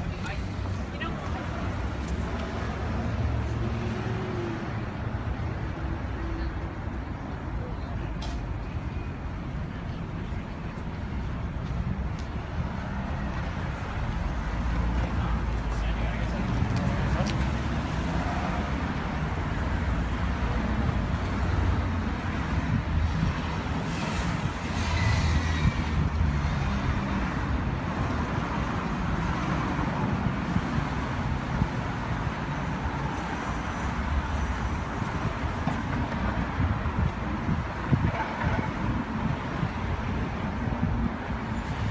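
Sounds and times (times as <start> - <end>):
city street traffic: 0.0 - 41.9.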